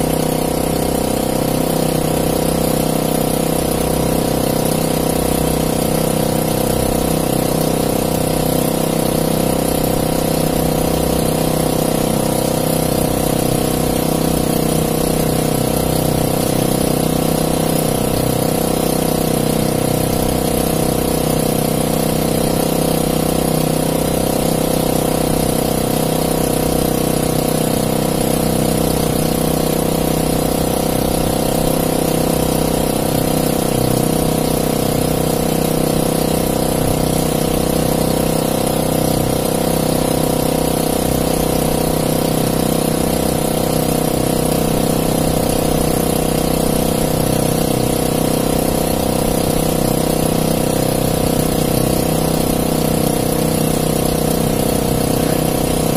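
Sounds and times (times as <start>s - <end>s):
small boat engine humming: 0.0s - 55.9s.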